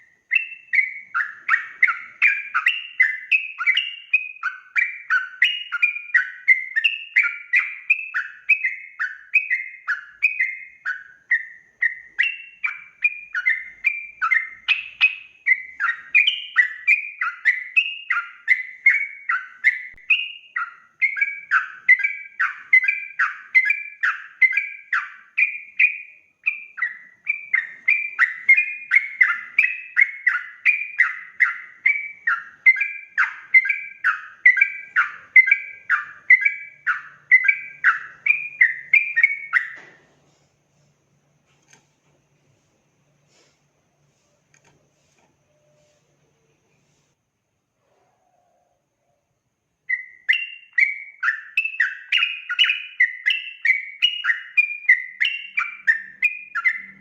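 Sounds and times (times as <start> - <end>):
bird singing bubbly phrases: 0.0 - 39.8, 49.9 - 57.0.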